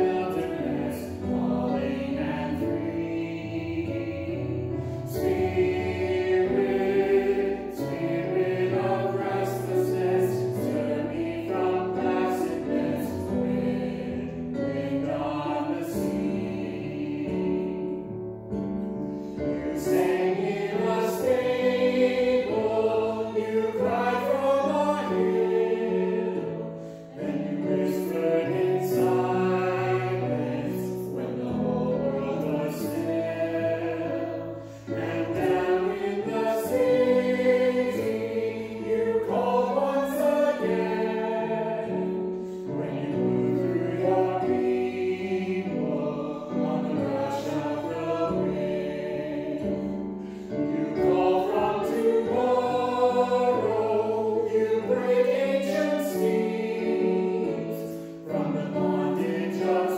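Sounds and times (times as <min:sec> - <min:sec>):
group singing a hymn: 0:00.0 - 0:59.9.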